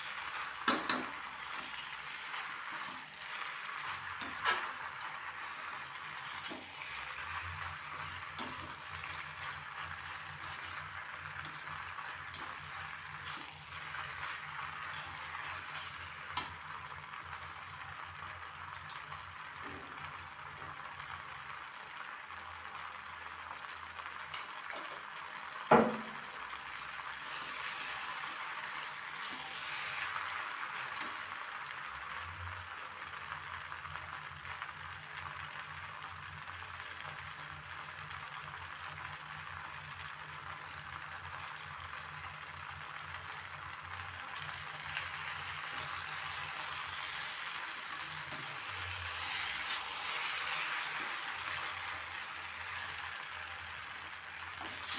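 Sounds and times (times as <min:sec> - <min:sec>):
food sizzling in a pan: 0:00.0 - 0:54.9.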